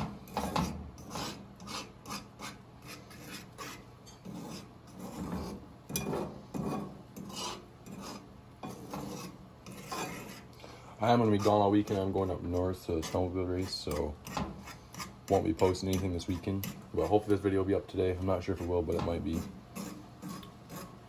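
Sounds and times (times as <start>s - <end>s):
fork scraping eggs in a frying pan: 0.0s - 21.0s.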